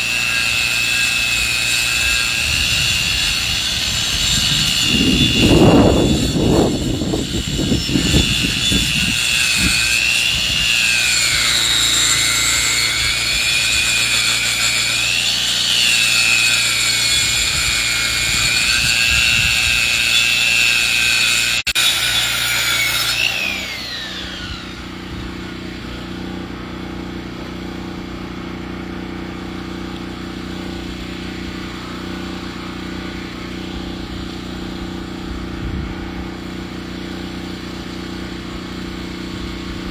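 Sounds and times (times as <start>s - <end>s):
engine-driven log saw whining: 0.0s - 39.9s.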